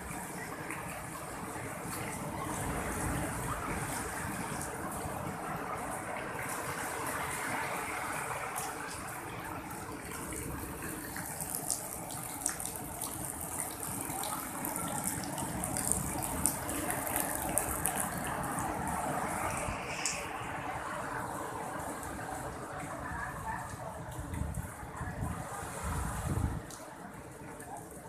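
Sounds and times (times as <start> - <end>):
waves breaking on beach: 0.0 - 27.3.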